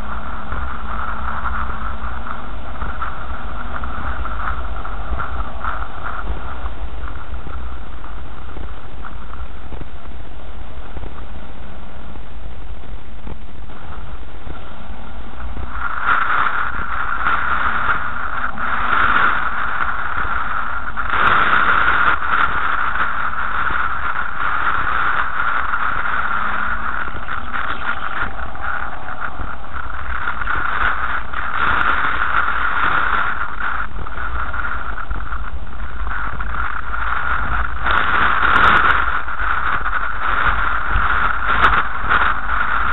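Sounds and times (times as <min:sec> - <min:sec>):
tyres on gravel: 0:00.0 - 0:11.9, 0:12.6 - 0:42.9
car engine and road rumble: 0:00.0 - 0:42.9.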